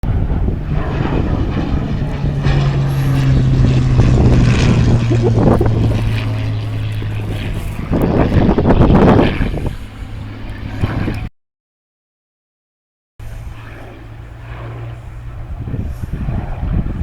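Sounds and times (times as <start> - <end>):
propeller aircraft engine droning: 0.0 - 11.3, 13.2 - 17.0.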